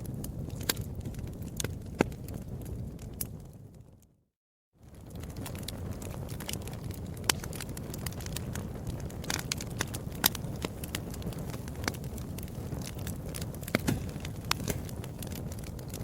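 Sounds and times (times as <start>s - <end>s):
wood fire crackling and popping: 0.0s - 4.2s, 4.8s - 16.0s
low rumble of flames: 0.0s - 16.0s.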